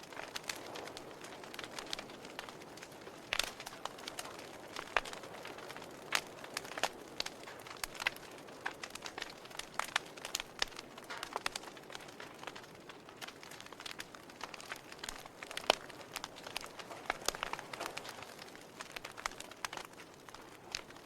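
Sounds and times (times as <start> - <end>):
campfire crackling and popping: 0.0 - 21.0
soft steady hiss: 0.0 - 21.0.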